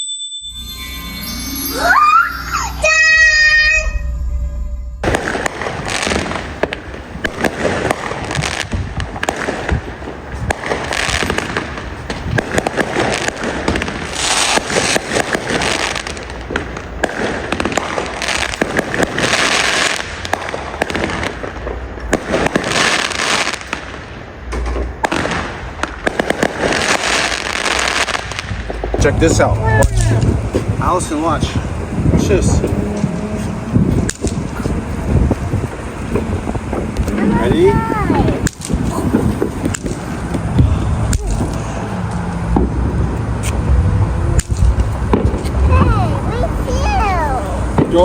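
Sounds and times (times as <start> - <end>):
fireworks popping and crackling: 5.0 - 48.0.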